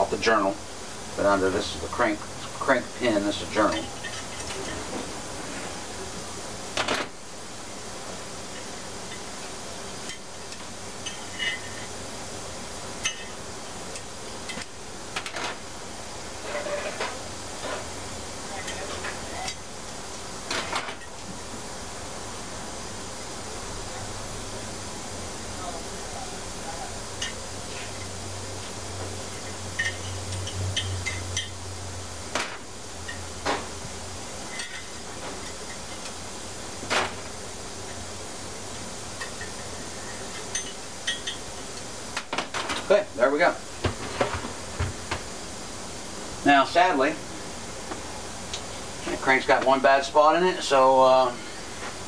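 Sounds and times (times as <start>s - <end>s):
steady shop hum: 0.0s - 52.0s.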